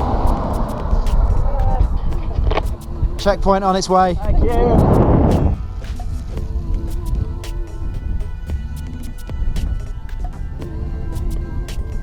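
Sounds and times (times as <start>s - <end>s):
background music with held tones: 0.0s - 12.0s.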